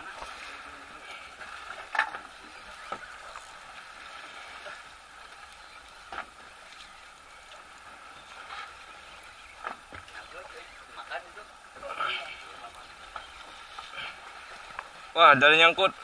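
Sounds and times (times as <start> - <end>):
fishing boat engine noise: 0.0 - 16.0.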